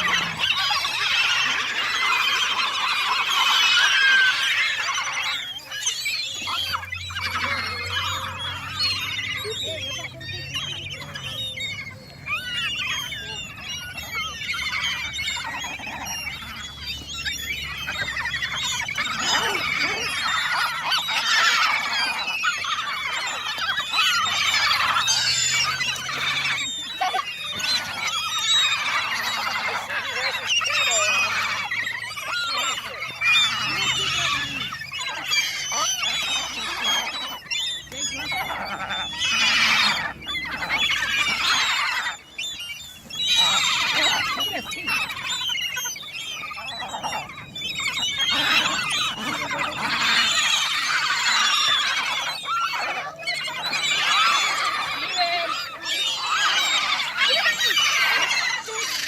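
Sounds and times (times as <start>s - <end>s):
flock of birds chattering: 0.0s - 59.0s.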